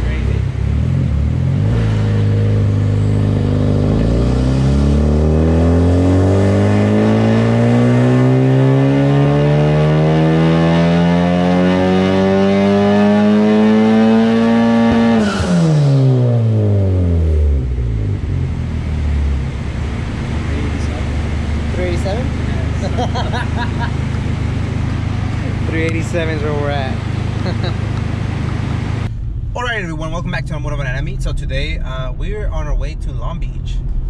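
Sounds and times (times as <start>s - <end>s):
car engine revving at full throttle: 0.0s - 34.0s.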